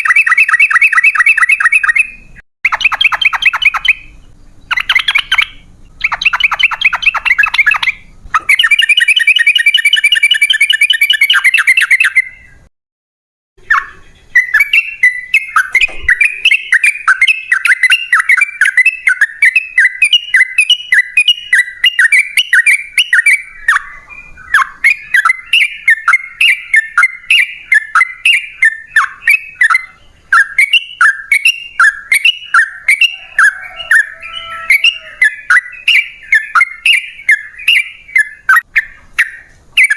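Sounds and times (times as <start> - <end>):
bird singing rapid song: 0.0 - 12.7, 13.6 - 39.9.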